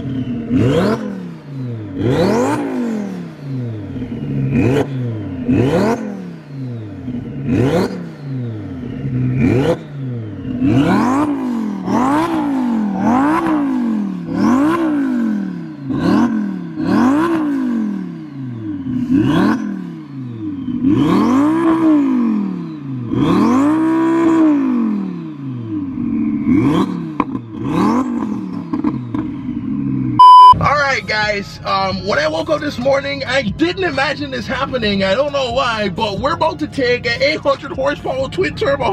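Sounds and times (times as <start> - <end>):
sports car engine revving: 0.0 - 31.3.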